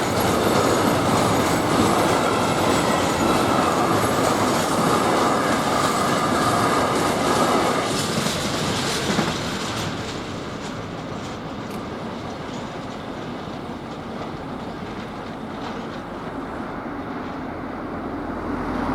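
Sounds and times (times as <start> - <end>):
train rumble: 0.0 - 18.9
train wheels clickety-clack: 0.0 - 18.9.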